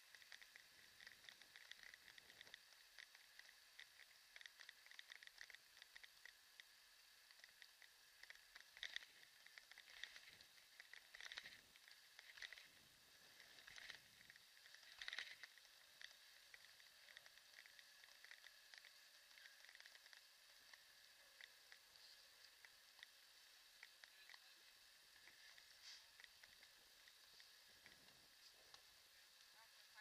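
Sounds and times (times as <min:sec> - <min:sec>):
faint irregular ticks and rattles: 0:00.0 - 0:30.0
faint steady high hiss: 0:00.0 - 0:30.0.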